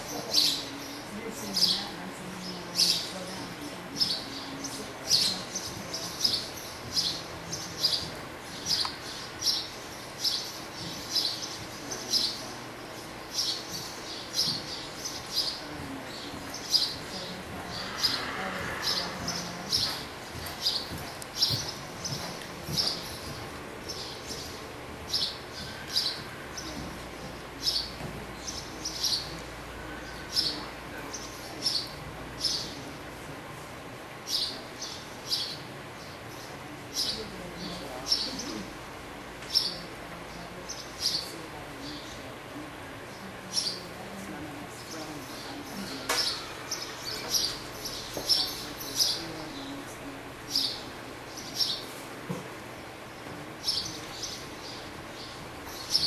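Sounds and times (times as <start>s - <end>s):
small birds chirping: 0.0s - 33.1s, 34.2s - 56.0s
low background hum: 0.0s - 56.0s.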